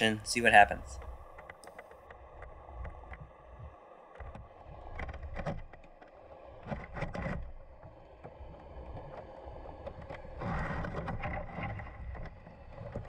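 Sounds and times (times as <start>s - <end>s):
faint clicks: 0.9s - 13.0s.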